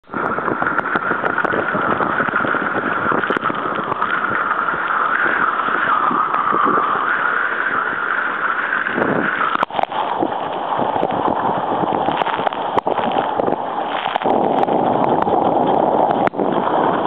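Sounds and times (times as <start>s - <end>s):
water rushing and splashing: 0.0s - 17.0s
wind buffeting microphone: 0.0s - 17.0s.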